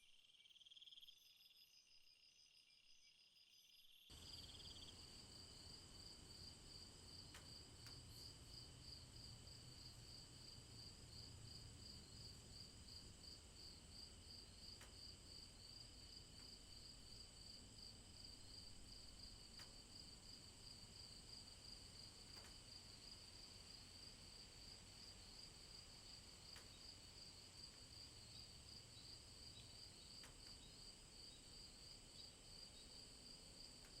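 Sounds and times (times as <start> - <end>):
crickets chirping: 0.0 - 34.0
high insect trills: 0.0 - 34.0.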